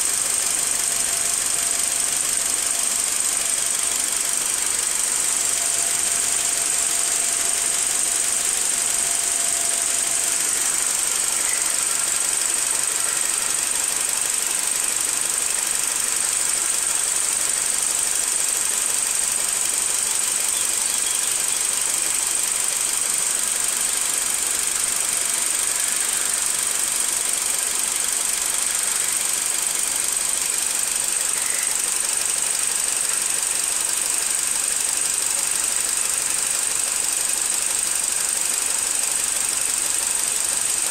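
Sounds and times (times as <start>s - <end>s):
car engine running steadily: 0.0s - 40.9s.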